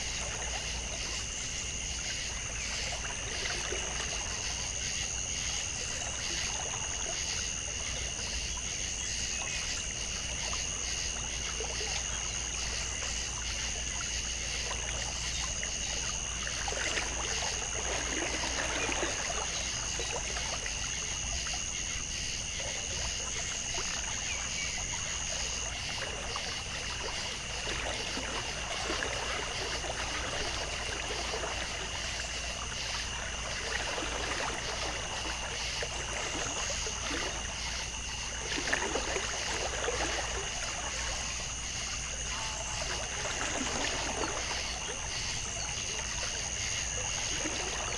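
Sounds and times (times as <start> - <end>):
water trickling: 0.0 - 47.9.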